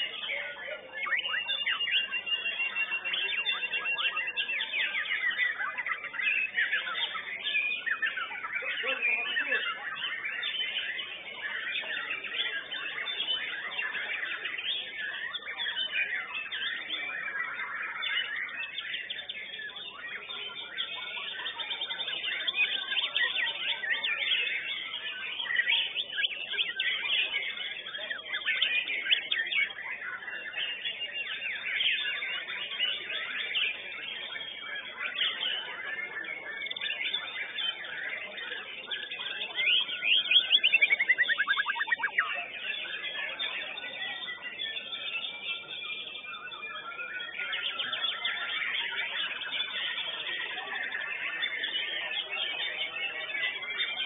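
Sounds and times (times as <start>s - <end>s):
songbird whistling and chattering: 0.0s - 54.0s.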